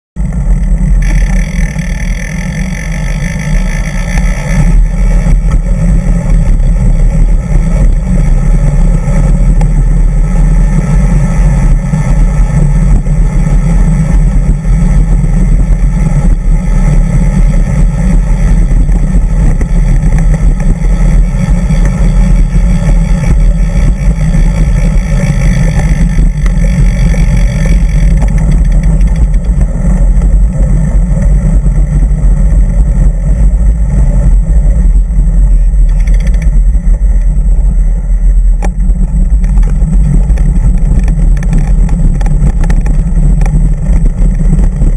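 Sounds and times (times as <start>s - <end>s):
road vibration rumble: 0.0s - 44.9s
wind on microphone: 0.2s - 44.9s.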